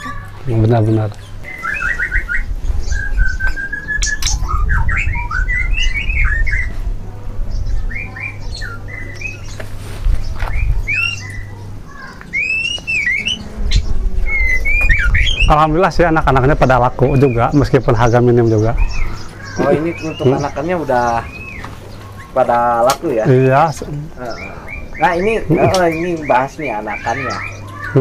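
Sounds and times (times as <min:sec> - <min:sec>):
bird singing chirps and whistles: 0:01.3 - 0:06.8, 0:07.5 - 0:09.5, 0:10.4 - 0:15.7, 0:16.9 - 0:28.0.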